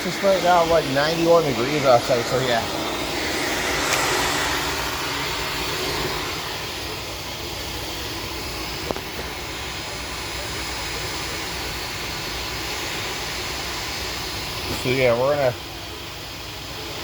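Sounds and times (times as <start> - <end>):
upright vacuum cleaner running: 0.0 - 17.0.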